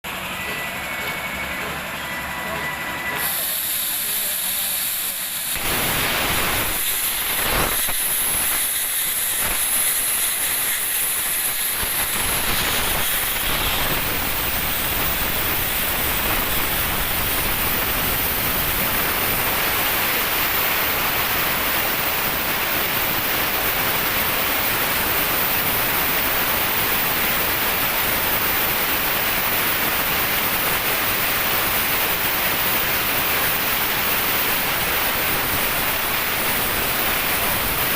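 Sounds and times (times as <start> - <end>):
plasma cutter hissing: 3.0 - 37.9.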